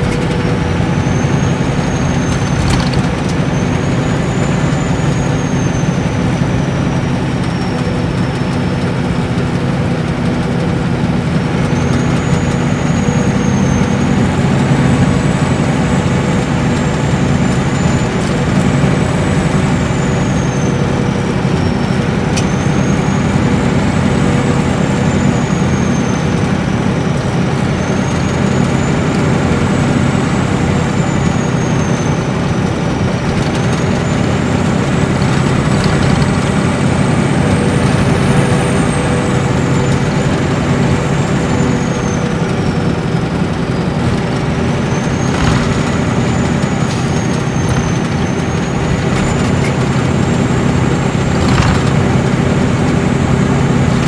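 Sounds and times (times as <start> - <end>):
low engine drone: 0.0 - 54.0
road noise: 0.0 - 54.0
high turbocharger whistle: 0.4 - 8.4, 11.6 - 52.3.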